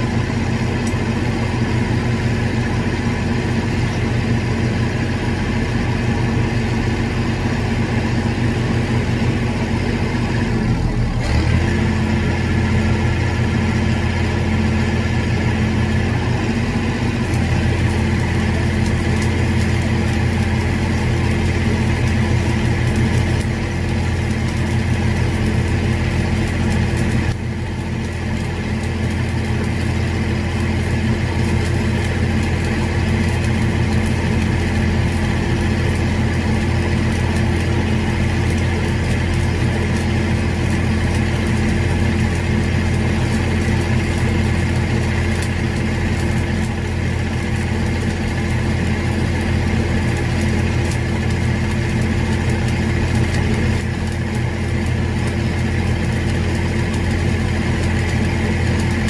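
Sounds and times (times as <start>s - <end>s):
engine drone: 0.0s - 59.0s
welding arc crackle: 0.0s - 59.0s.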